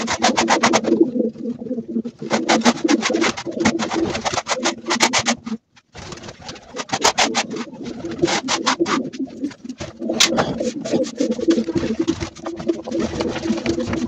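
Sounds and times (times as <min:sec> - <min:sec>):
pigeons cooing: 0:00.0 - 0:05.6, 0:06.4 - 0:14.0
short sharp rustles and knocks: 0:02.3 - 0:14.0.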